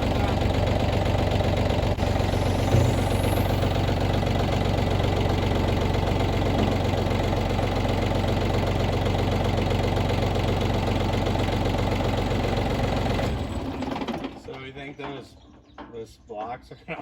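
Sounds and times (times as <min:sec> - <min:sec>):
diesel engine chugging: 0:00.0 - 0:16.3.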